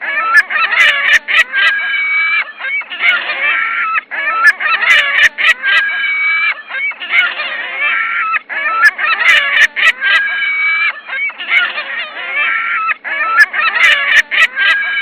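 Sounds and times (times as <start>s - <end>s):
loud bird calls: 0.0s - 15.0s.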